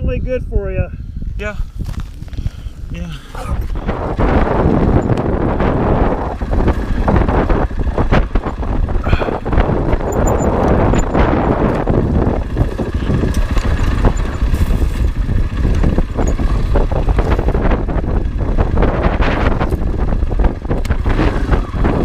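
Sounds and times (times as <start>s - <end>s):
wind buffeting microphone: 0.0s - 22.0s
dirt bike engine rumble: 0.9s - 22.0s.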